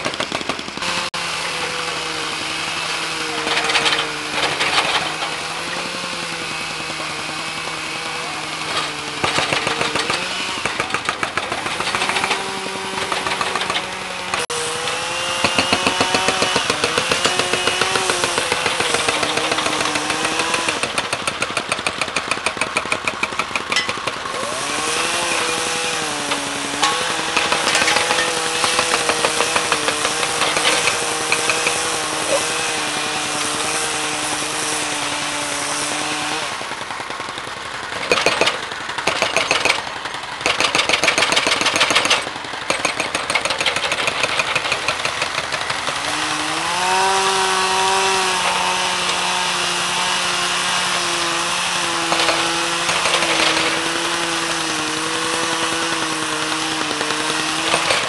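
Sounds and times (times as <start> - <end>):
small engine power tool clattering: 0.0 - 58.0.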